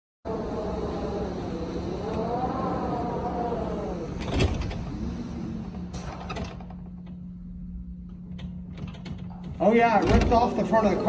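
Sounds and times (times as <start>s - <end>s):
steady low hum: 0.3s - 11.0s
storm wind howling against doors: 0.3s - 11.0s.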